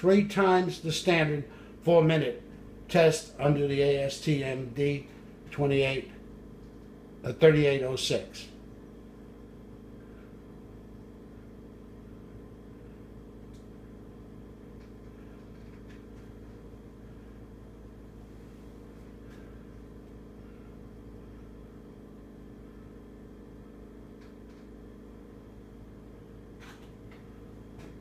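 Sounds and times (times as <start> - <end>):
low hum of running equipment: 0.0 - 28.0.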